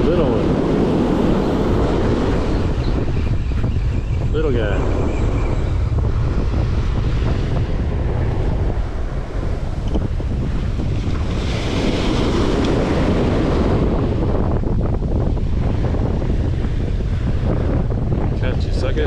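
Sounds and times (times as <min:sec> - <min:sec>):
ocean surf breaking on beach: 0:00.0 - 0:03.2, 0:04.2 - 0:19.0
wind rumbling on microphone: 0:00.0 - 0:19.0.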